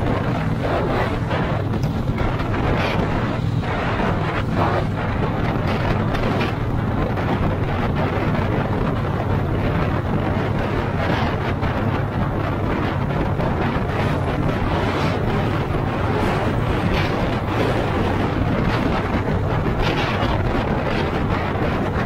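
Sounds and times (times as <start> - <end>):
motorcycle engine cruising: 0.0 - 22.0
wind rushing over microphone: 0.0 - 22.0.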